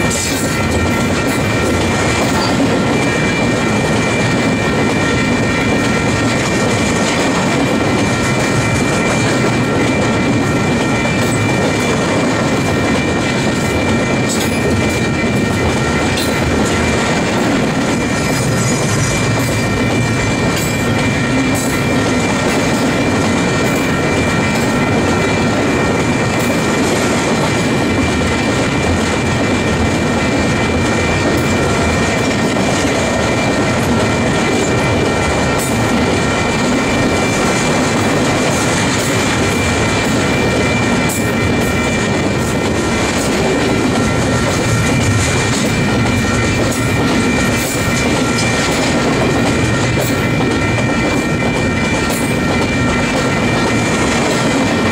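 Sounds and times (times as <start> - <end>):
train cars rumbling past: 0.0 - 54.9
wheels clattering on rails: 0.0 - 54.9.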